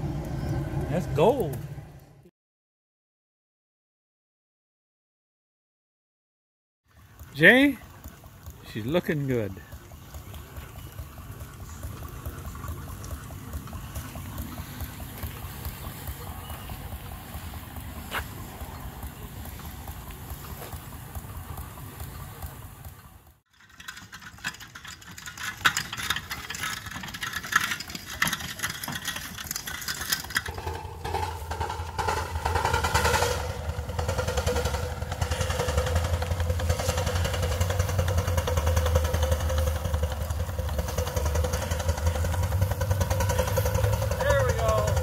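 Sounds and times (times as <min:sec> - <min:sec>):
low engine hum: 0:00.0 - 0:02.3, 0:06.9 - 0:23.5, 0:24.6 - 0:45.0
steam traction engine chuffing: 0:06.9 - 0:45.0.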